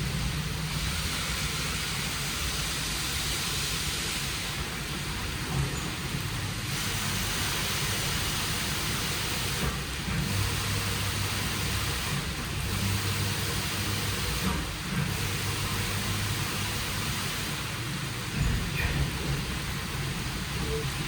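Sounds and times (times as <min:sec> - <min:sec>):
water spraying hiss: 0:00.0 - 0:21.0.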